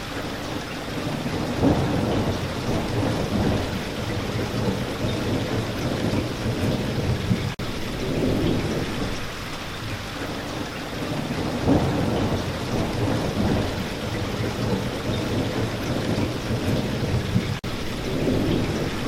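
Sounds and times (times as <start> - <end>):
steady rain falling: 0.0 - 19.0
distant thunder rumbling: 0.1 - 19.0.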